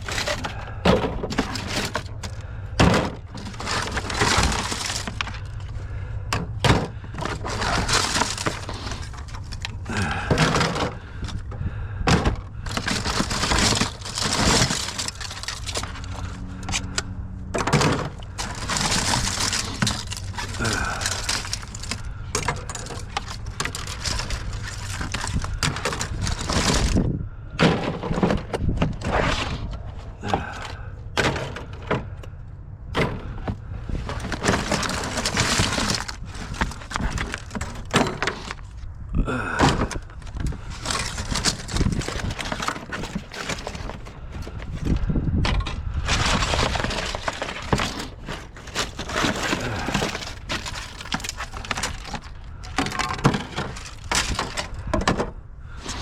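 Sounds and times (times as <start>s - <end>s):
scrap crashing and clattering: 0.0s - 32.2s, 32.9s - 38.8s, 39.4s - 56.0s.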